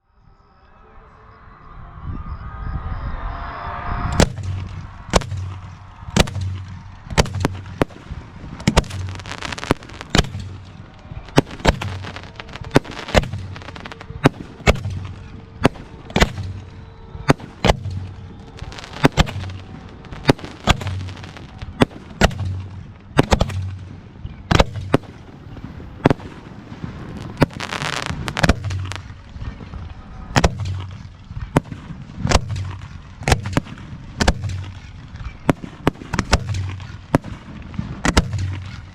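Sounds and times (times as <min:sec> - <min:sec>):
firework shells bursting: 0:04.2 - 0:29.3, 0:30.3 - 0:38.9
fireworks crackling: 0:04.2 - 0:38.9.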